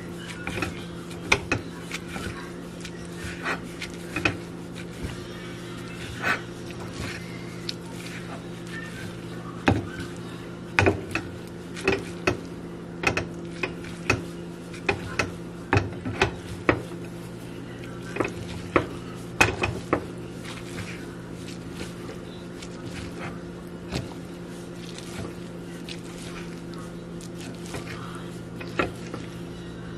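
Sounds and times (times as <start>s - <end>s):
steady low hum: 0.0s - 29.9s
utensil scraping a plate: 0.1s - 29.9s.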